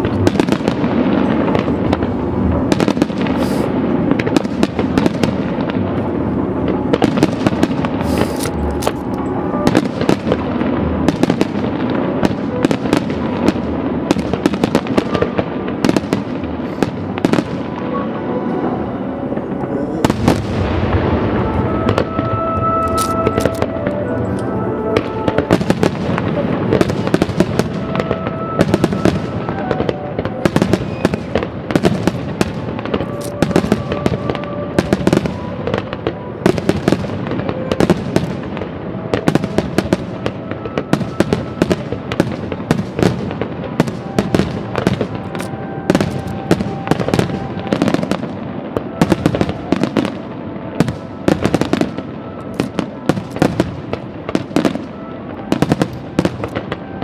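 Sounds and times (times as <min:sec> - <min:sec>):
faint music: 0:00.0 - 0:57.0
fireworks bursting and crackling: 0:00.0 - 0:57.0.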